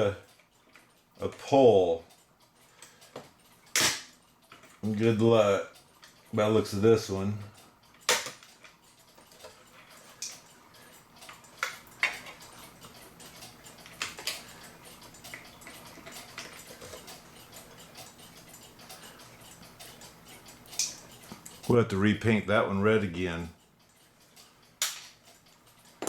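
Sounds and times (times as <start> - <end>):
small clock parts clicking: 0.0 - 26.0.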